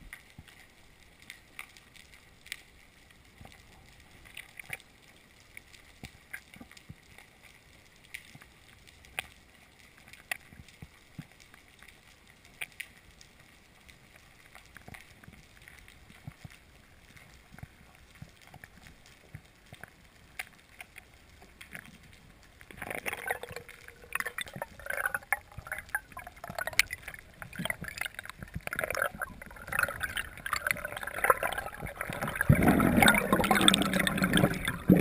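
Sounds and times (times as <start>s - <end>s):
low steady hiss: 0.0s - 35.0s
underwater clicks and crackles: 0.0s - 35.0s.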